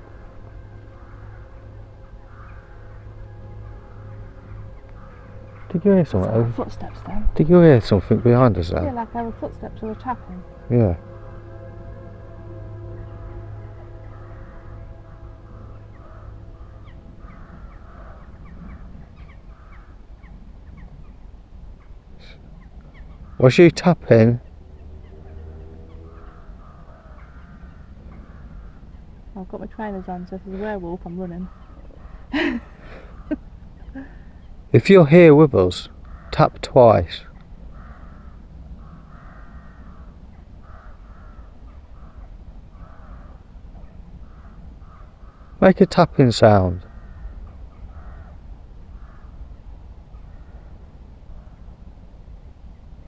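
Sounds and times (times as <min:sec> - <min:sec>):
crows cawing: 0:00.0 - 0:51.9
distant harsh animal calls: 0:00.0 - 0:52.0
low rumble: 0:00.0 - 0:53.0.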